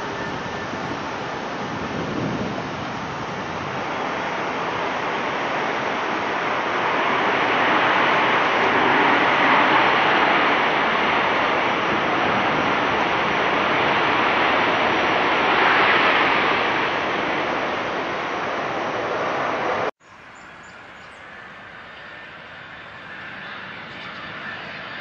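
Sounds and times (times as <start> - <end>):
jet engine hum on approach: 0.0 - 25.0
jet engines in reverse thrust: 0.0 - 25.0.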